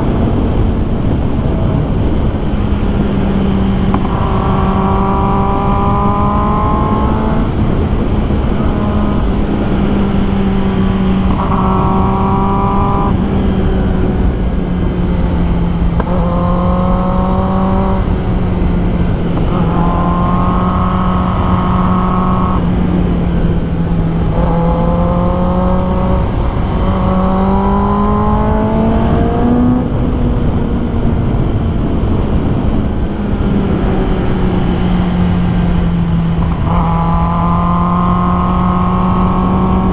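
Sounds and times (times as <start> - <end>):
motorcycle engine revving high: 0.0 - 39.9
wind rush: 0.0 - 39.9.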